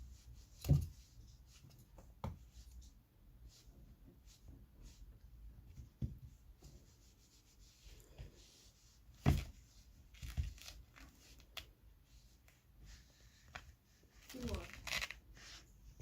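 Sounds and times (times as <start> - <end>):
rubbing and handling noises: 0.0 - 16.0.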